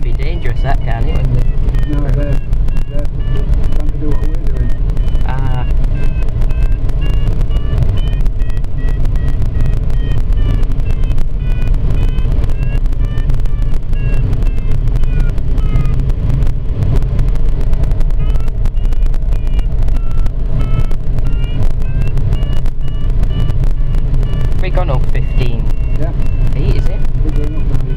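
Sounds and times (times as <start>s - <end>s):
airflow rumble: 0.0s - 27.9s
variometer beeping: 0.0s - 27.9s.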